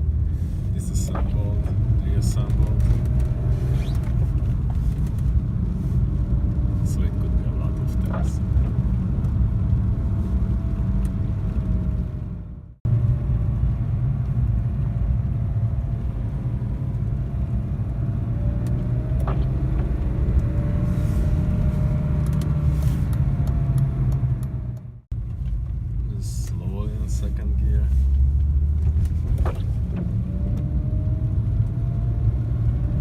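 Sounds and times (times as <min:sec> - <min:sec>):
car engine low rumble: 0:00.0 - 0:33.0
road noise: 0:00.0 - 0:33.0.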